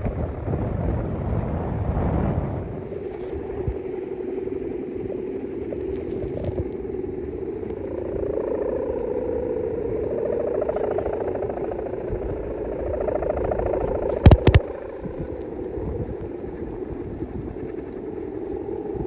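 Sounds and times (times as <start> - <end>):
droning wavering hum: 0.0 - 19.0
wind rumble on microphone: 0.0 - 19.0.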